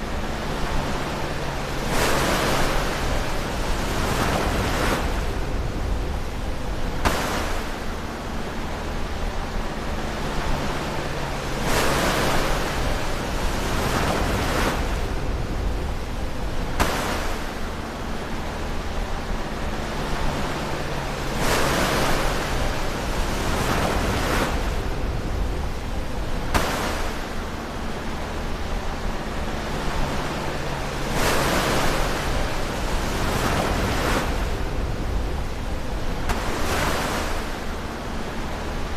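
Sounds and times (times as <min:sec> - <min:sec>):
ocean waves crashing: 0:00.0 - 0:38.9.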